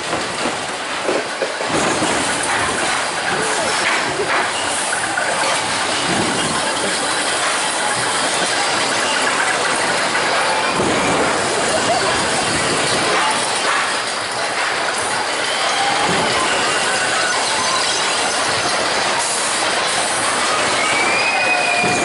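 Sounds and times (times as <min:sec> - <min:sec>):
roller coaster wheels rumbling on rail: 0:00.0 - 0:22.0.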